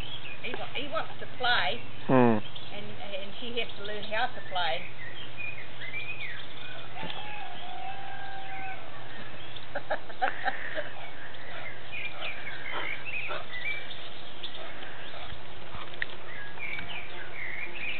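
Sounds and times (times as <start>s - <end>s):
birds chirping and whistling: 0.0s - 17.9s
steady low hum: 0.0s - 17.9s.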